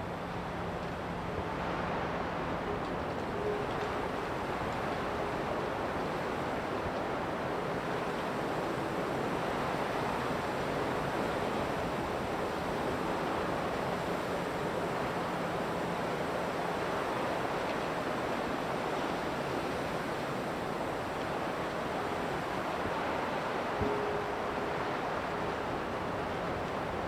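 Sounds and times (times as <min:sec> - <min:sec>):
wind through trees: 0:01.8 - 0:27.0.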